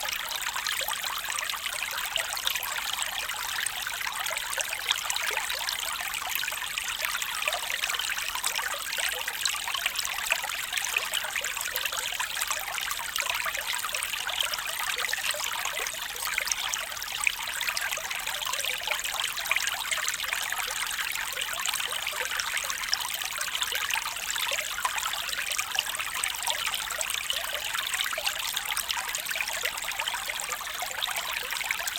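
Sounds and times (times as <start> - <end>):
small stream trickling: 0.0 - 31.9.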